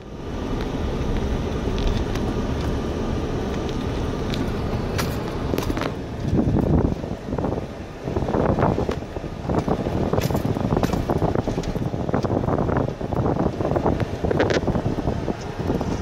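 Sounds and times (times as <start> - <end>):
gravel ticks: 0.0 - 7.1, 8.5 - 16.0
tyres rumbling over dirt road: 0.0 - 16.0.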